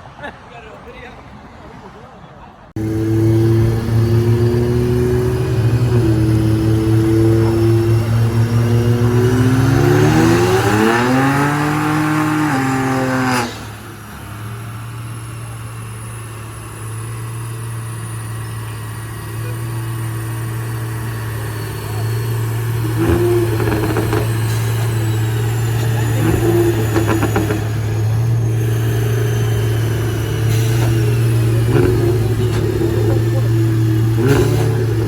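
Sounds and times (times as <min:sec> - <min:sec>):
car engine revving: 0:02.8 - 0:35.0
low engine drone: 0:02.8 - 0:35.0.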